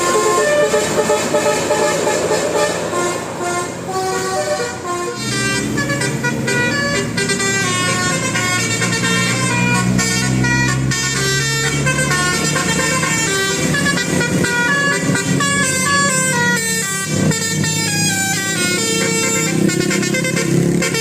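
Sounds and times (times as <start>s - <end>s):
musical bus horn melody: 0.0s - 21.0s.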